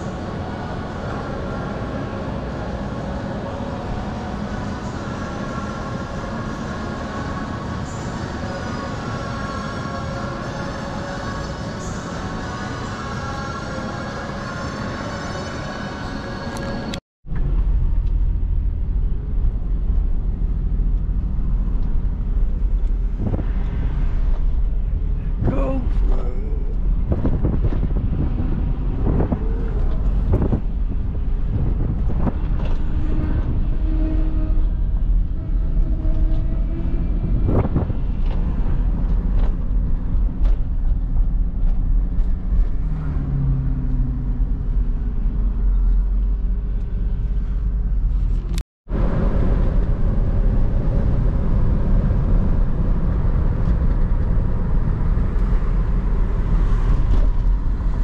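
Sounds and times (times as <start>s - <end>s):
van engine and tyre rumble: 0.0s - 58.0s.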